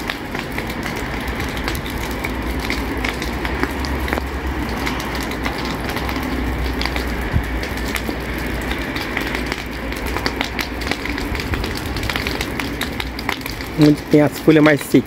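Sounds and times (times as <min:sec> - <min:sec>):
brush fire crackling: 0:00.0 - 0:15.0
fire rushing noise: 0:00.0 - 0:15.0.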